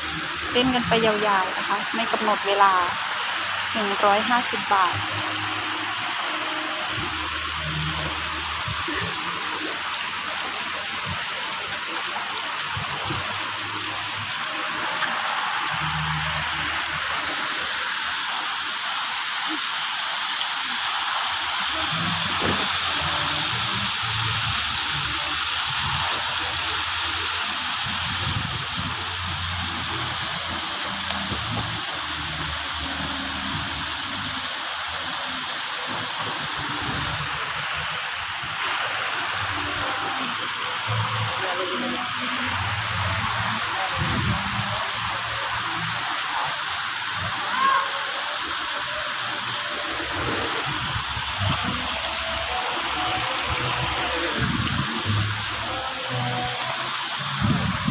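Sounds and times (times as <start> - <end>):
water splashing into pool: 4.4 - 57.9.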